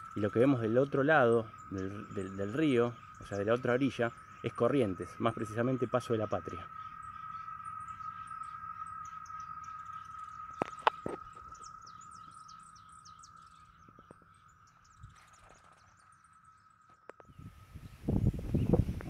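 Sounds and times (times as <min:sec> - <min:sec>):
high bird chirps: 0:00.0 - 0:19.0
insect drone: 0:00.0 - 0:19.0.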